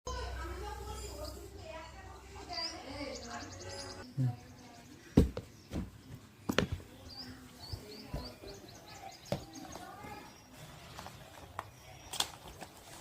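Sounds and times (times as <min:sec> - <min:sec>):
faint background voices: 0:00.1 - 0:13.0.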